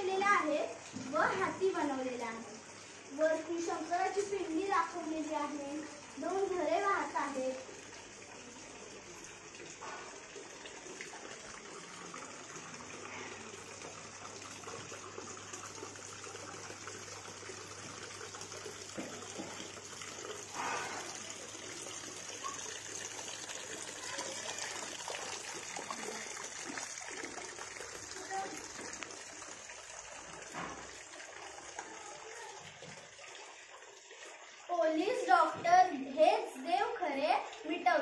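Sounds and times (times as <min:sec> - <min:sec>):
water trickling over rocks: 0:00.1 - 0:38.0.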